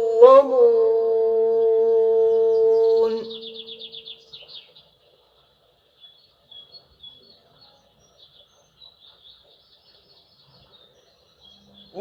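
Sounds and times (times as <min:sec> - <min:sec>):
faint small birds chirping: 0:01.6 - 0:12.0.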